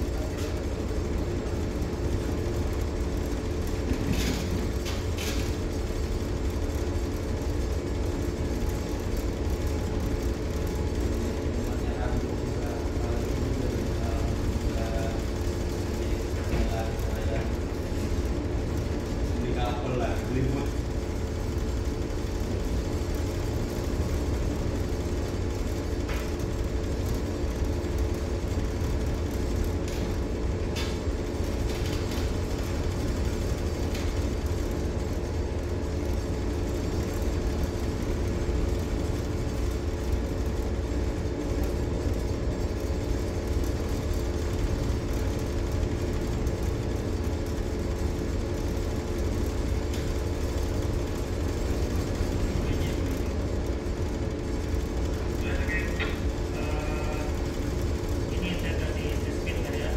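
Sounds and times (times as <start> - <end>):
ship machinery hum: 0.0 - 59.9.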